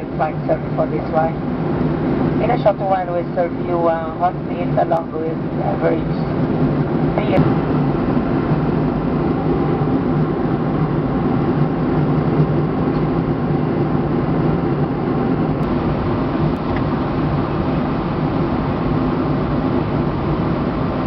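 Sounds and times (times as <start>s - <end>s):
airliner cabin engine drone: 0.0s - 21.0s
low steady hum: 0.0s - 21.0s.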